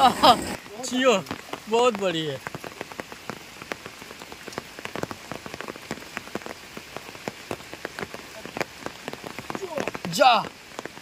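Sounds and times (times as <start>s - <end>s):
rain falling on pond water: 0.0s - 11.0s.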